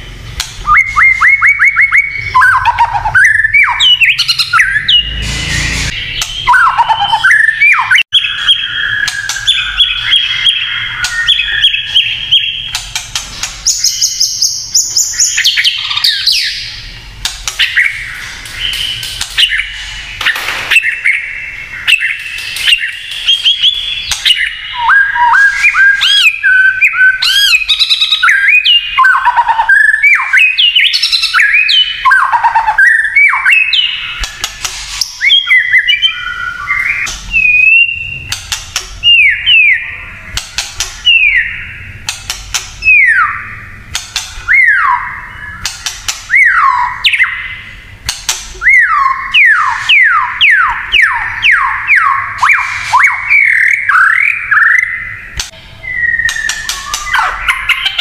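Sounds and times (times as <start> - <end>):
bird singing whistled song: 0.6 - 12.8, 13.6 - 16.9, 17.6 - 34.4, 35.0 - 38.4, 39.0 - 40.1, 41.0 - 42.0, 42.8 - 43.7, 44.5 - 45.7, 46.3 - 47.8, 48.6 - 58.0.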